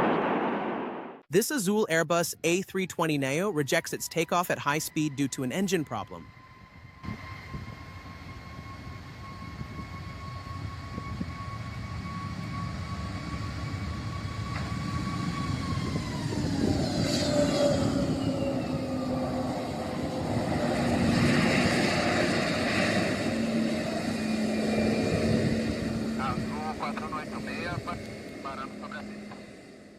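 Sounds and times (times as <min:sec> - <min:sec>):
jet engines whining: 0:03.1 - 0:29.9.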